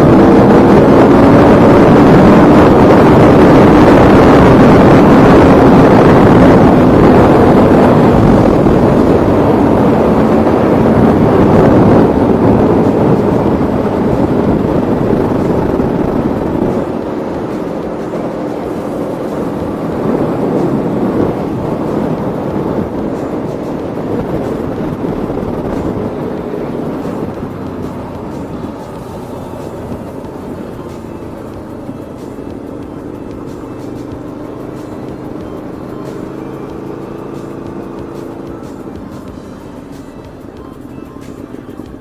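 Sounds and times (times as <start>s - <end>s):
motorcycle engine running: 0.0s - 42.0s
wind rushing over microphone: 0.0s - 42.0s.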